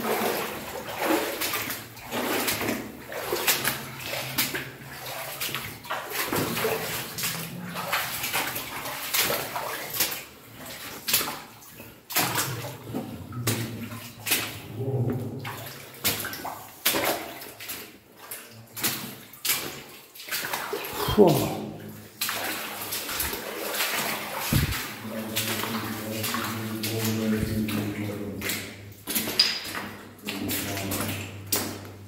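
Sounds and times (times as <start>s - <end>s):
footsteps wading through water: 0.0s - 32.0s.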